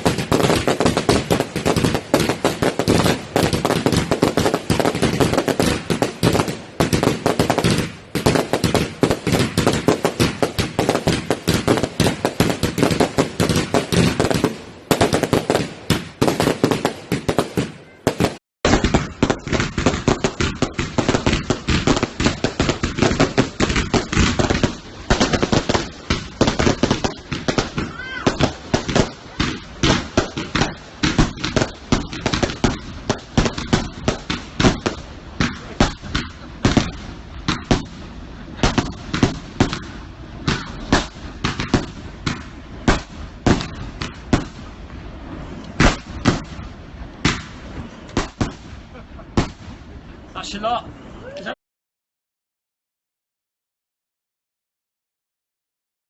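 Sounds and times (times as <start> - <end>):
fireworks bangs and crackles: 0.0 - 50.8.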